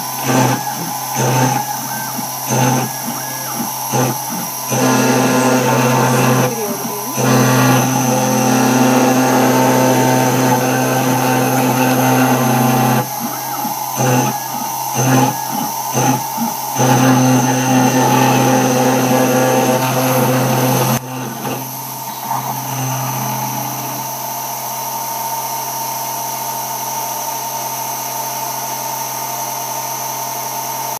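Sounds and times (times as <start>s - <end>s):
rotary spindle motor hum and whine: 0.0s - 30.9s.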